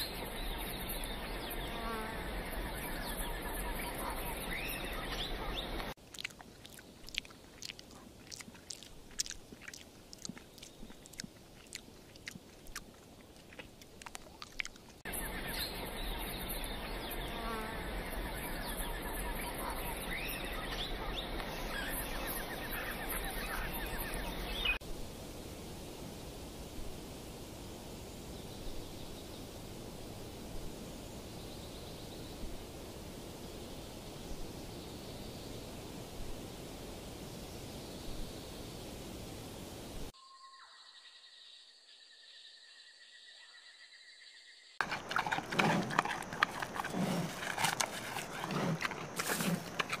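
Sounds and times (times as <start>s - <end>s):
insects buzzing and chirring: 0.0s - 13.6s, 14.4s - 43.4s, 44.8s - 50.0s.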